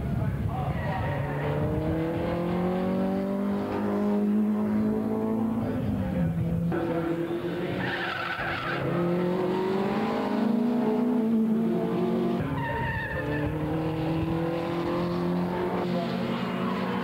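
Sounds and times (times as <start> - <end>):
racing car engines revving: 0.6 - 17.0.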